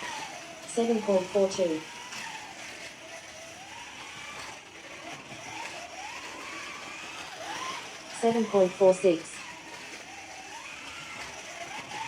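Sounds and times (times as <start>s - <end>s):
slot car motor whining: 0.0s - 12.0s.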